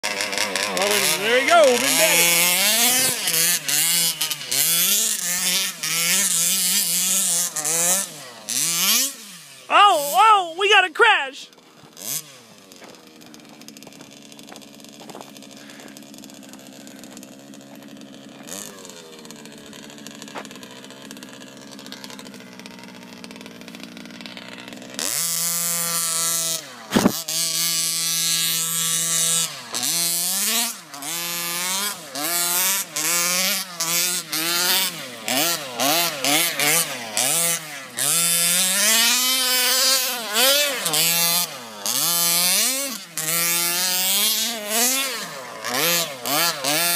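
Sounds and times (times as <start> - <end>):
two-stroke engine idling and revving: 0.0 - 46.9.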